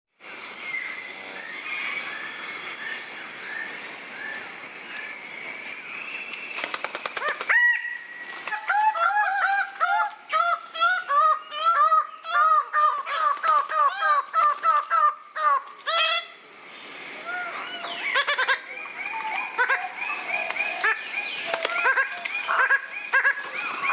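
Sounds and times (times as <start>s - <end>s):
high insect-like drone: 0.1s - 23.9s.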